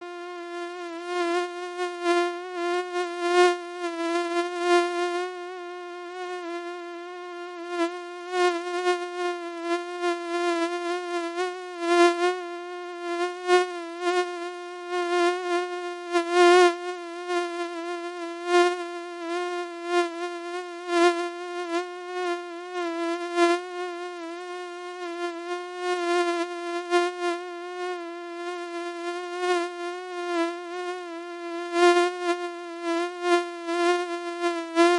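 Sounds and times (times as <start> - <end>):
mosquito whining buzz: 0.0 - 34.9.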